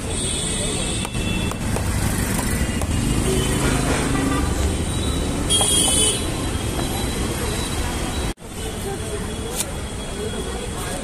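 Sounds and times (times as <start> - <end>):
street traffic rumbling: 0.0 - 11.0.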